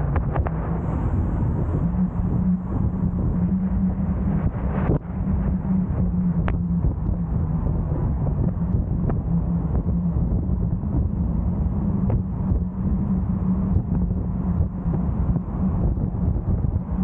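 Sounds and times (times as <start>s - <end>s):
car driving on road: 0.0s - 17.0s.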